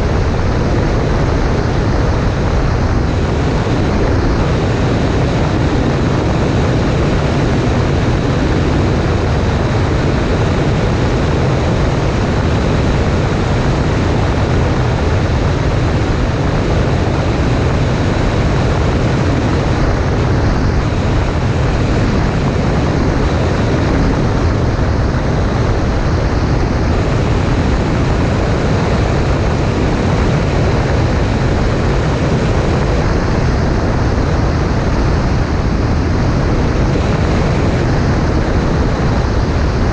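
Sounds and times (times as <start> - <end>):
airplane engine and propeller: 0.0 - 39.9
rush of air: 0.0 - 39.9.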